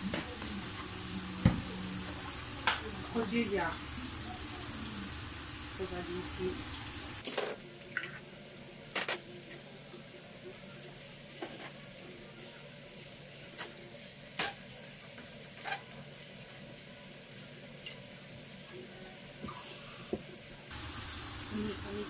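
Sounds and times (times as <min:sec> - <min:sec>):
meat sizzling in a frying pan: 0:00.0 - 0:07.2, 0:09.8 - 0:20.1, 0:20.7 - 0:22.0.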